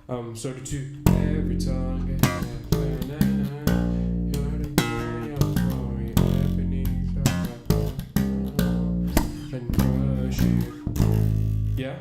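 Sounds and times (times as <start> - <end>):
man singing: 0.0 - 11.1
electric bass playing held notes: 0.7 - 12.0.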